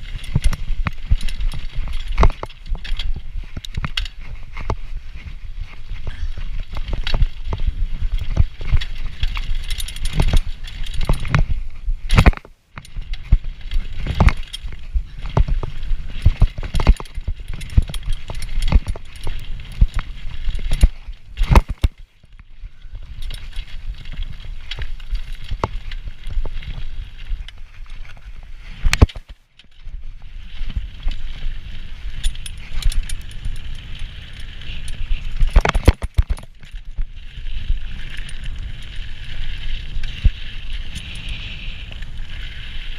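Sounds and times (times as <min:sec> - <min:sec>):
bike knocking and rattling: 0:00.0 - 0:42.9
bike tyre rumble: 0:00.0 - 0:42.9
wind noise: 0:00.0 - 0:42.9.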